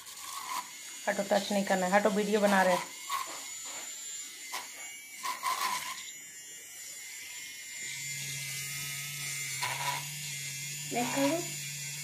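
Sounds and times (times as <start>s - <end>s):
milk frother motor whine: 0.0s - 12.0s.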